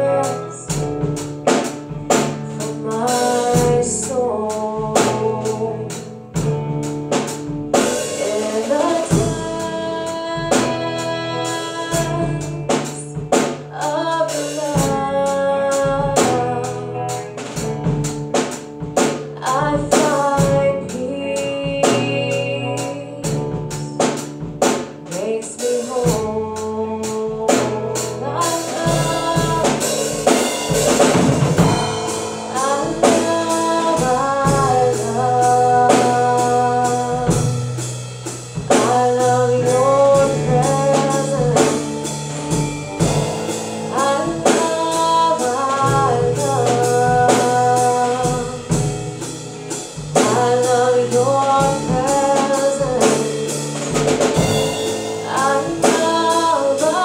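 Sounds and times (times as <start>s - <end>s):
woman singing: 0.0s - 57.0s
worship band playing: 0.0s - 57.0s.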